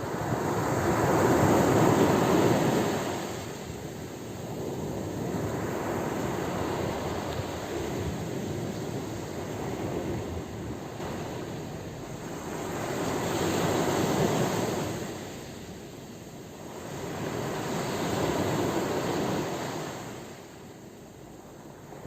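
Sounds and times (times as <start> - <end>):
sea waves washing: 0.0 - 22.0.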